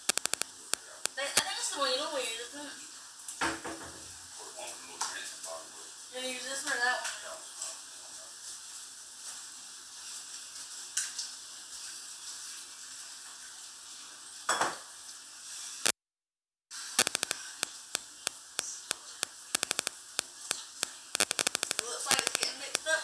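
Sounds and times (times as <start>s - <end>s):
sizzling hiss of cooking: 0.0s - 16.0s, 16.7s - 23.0s.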